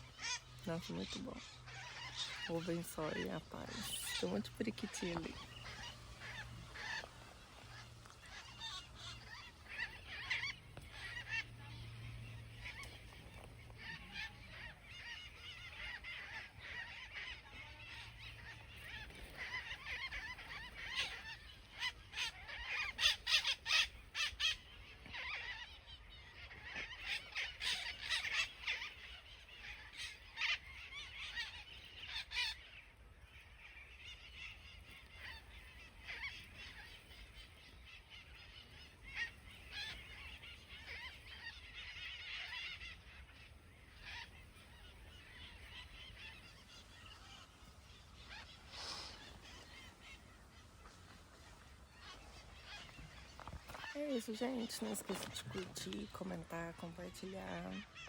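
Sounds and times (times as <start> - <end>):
parakeets squawking: 0.0 - 58.0.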